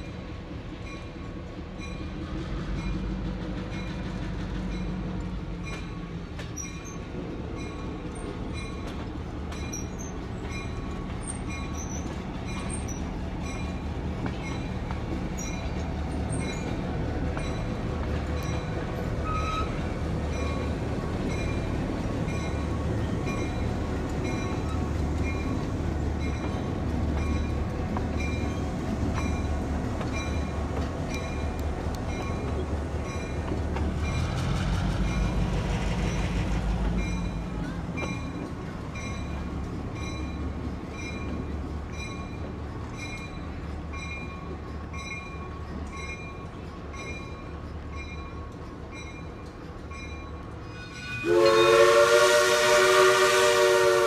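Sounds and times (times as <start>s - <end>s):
diesel locomotive engine rumbling: 0.0s - 54.0s
locomotive bell ringing: 4.6s - 34.4s, 35.0s - 51.8s.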